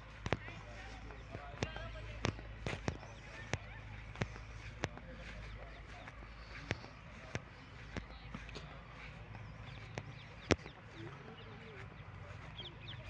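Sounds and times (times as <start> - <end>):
footsteps on dry grass: 0.0 - 13.0.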